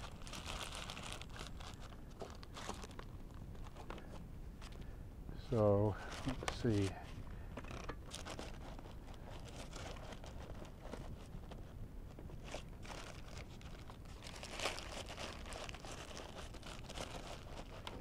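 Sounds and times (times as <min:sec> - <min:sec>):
faint rustling and crinkling: 0:00.0 - 0:18.0.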